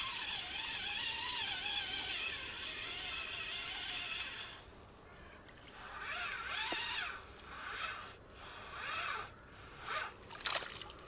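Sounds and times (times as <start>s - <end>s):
fishing reel gear whirring: 0.0s - 4.9s, 5.7s - 10.3s.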